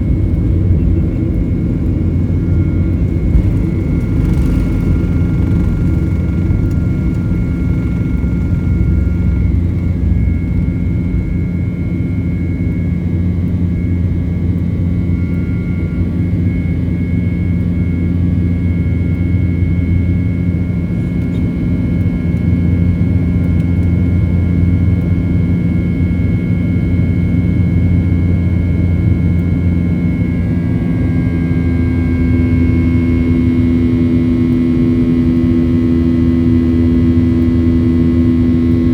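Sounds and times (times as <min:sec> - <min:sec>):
jet engines rumbling in cabin: 0:00.0 - 0:38.9
low hum: 0:00.0 - 0:38.9.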